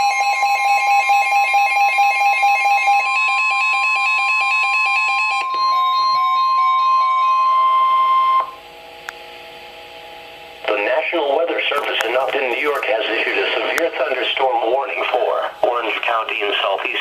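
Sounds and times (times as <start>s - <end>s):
steady warning alarm tone: 0.0s - 17.0s
faint hum: 1.5s - 17.0s.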